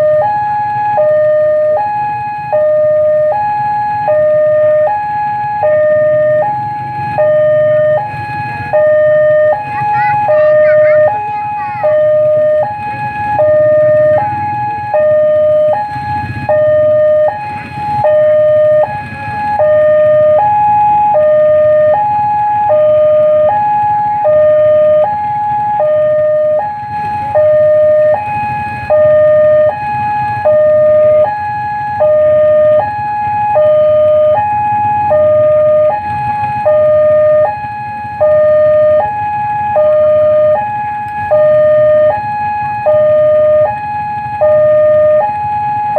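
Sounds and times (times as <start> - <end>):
two-tone crossing alarm: 0.0 - 45.9.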